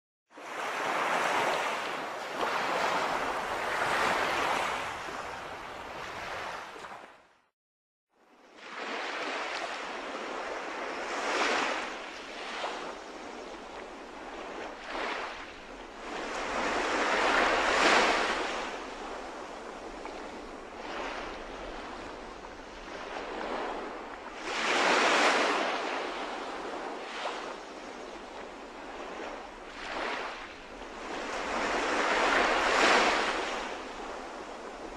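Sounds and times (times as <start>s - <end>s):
surf washing on shore: 0.4s - 7.0s, 8.6s - 34.9s.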